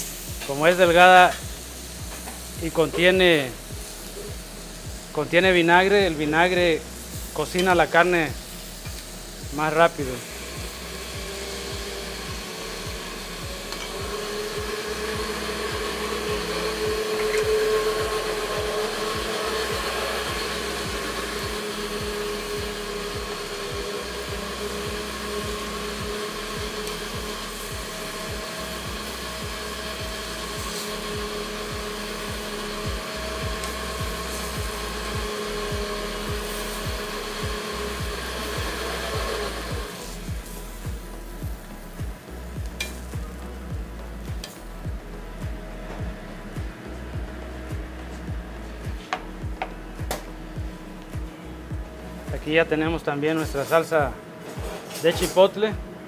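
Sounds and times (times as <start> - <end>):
electric blender whirring: 0.0 - 52.3.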